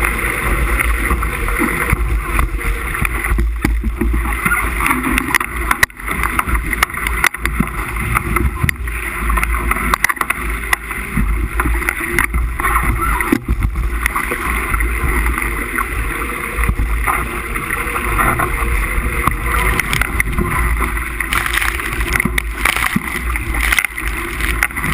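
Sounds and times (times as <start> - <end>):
water rushing along hull: 0.0 - 24.9.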